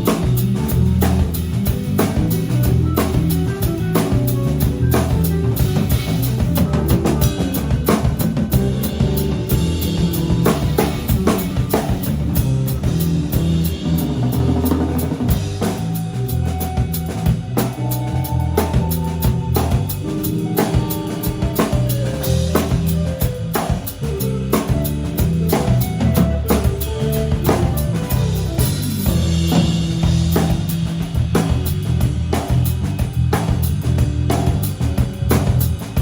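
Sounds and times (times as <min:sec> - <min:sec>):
bass guitar notes: 0:00.0 - 0:36.0
drum kit kick and snare: 0:00.0 - 0:36.0.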